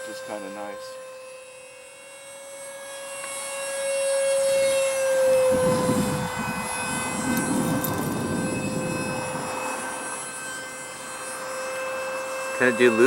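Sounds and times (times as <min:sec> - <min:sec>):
electric fan jet whining: 0:00.0 - 0:13.0.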